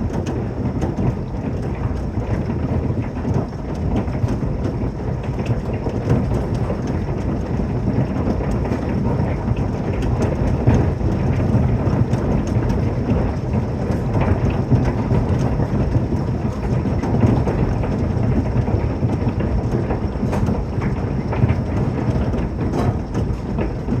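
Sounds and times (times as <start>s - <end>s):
hail hitting the roof: 0.0s - 24.0s.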